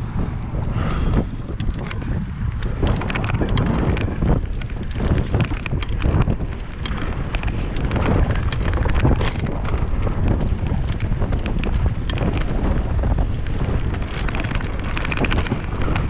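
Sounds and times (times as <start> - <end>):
bike clattering and rattling: 0.0 - 16.0
wind buffeting microphone: 0.0 - 16.0.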